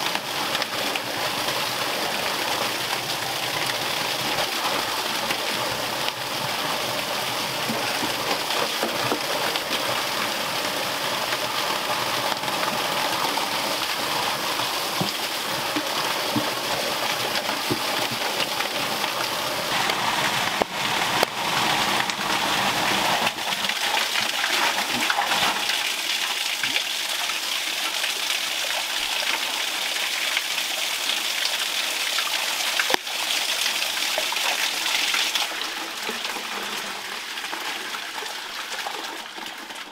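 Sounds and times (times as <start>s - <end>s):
water gushing into drain: 0.0s - 39.9s.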